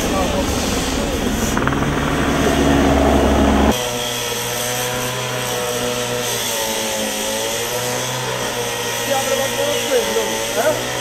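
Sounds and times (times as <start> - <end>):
helicopter rotor and engine: 0.0 - 11.0
small engine running: 0.0 - 11.0.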